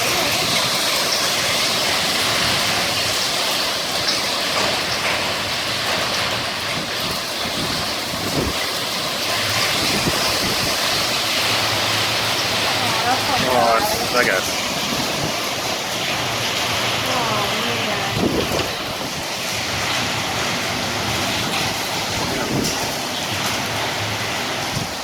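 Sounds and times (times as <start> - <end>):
hail and rain pelting down: 0.0 - 25.0.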